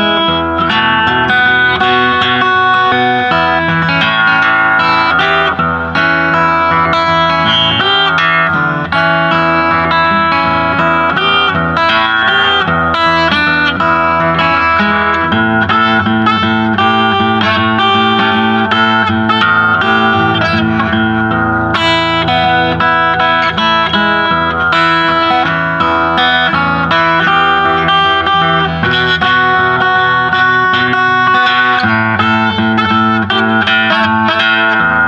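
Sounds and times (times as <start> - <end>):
fingerpicked acoustic guitar: 0.0 - 35.0.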